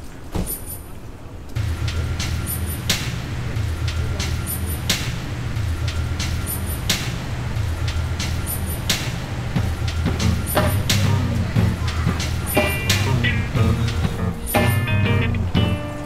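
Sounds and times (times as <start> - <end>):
background music with bass beat: 1.6 - 16.0.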